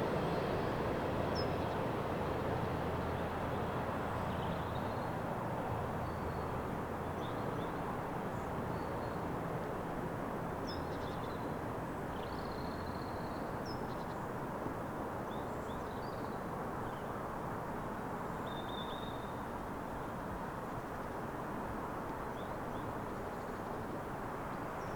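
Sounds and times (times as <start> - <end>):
faint low engine hum: 0.0 - 24.9.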